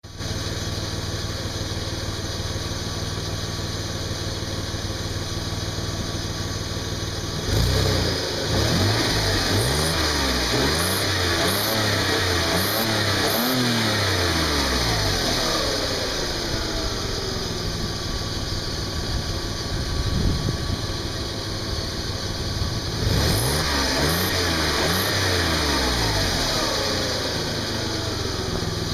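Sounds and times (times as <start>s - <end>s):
car engine revving and idling: 0.1s - 28.9s.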